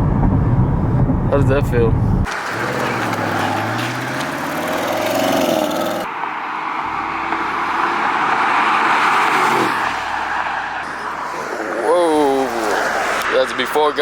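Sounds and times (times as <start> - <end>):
road and wind noise: 0.0 - 14.0
car engine accelerating: 2.1 - 13.5.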